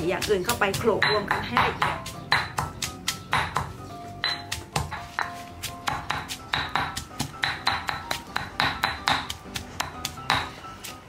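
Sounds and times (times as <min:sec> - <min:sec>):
mortar and pestle pounding garlic: 0:00.0 - 0:11.0.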